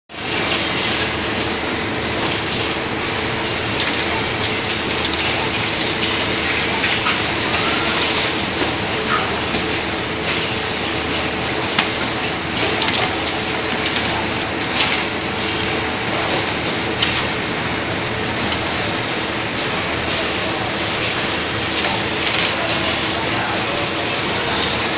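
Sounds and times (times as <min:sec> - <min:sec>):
conveyor rattle and hum: 0:00.1 - 0:24.9.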